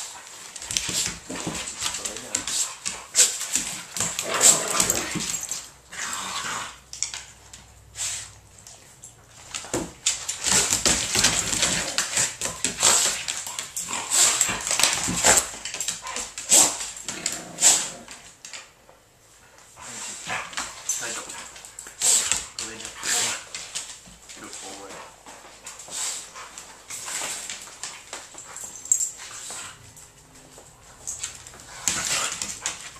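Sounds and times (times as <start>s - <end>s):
dogs play-fighting: 0.0s - 32.9s.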